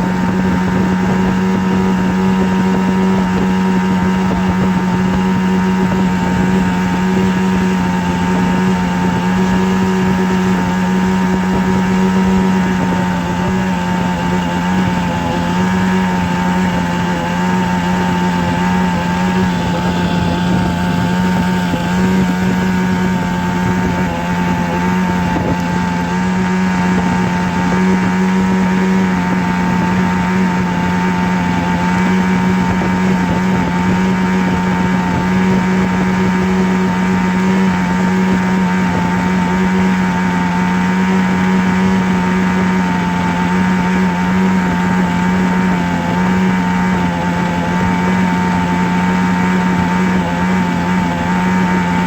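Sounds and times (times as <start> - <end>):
low steady drone: 0.0 - 52.0.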